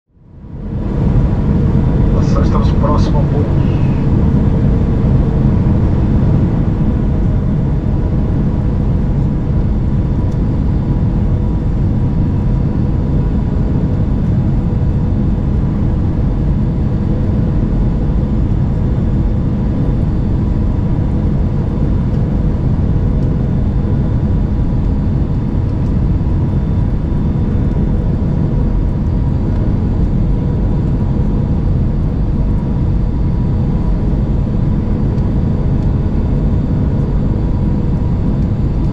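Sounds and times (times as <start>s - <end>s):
airplane cabin engine rush: 0.3s - 38.9s.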